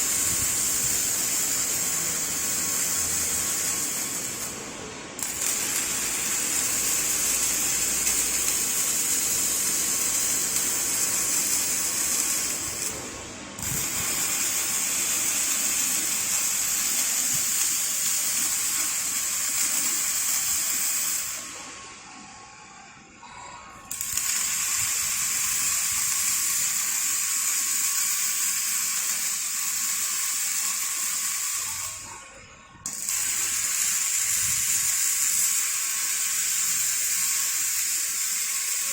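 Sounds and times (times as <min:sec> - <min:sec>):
welding arcs hissing: 0:00.0 - 0:21.9, 0:23.8 - 0:38.9.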